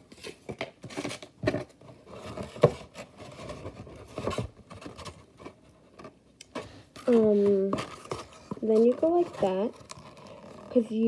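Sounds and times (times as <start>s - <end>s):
cardboard rubbing and scraping: 0.1s - 6.2s, 7.0s - 11.0s.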